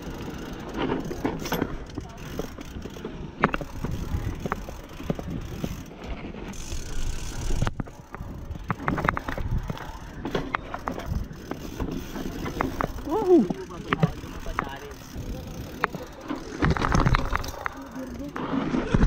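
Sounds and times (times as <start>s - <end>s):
mountain bike rattling: 0.0s - 19.0s.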